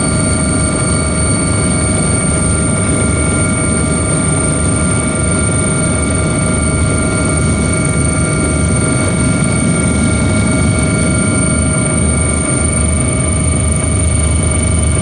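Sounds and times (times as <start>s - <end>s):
helicopter rotor and engine rumble: 0.0s - 15.0s
high-pitched whines: 0.0s - 15.0s.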